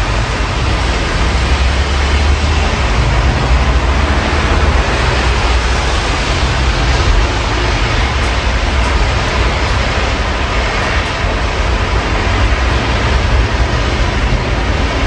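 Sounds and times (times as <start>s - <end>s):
city traffic rumble: 0.0s - 15.0s
rain hiss: 0.0s - 15.0s.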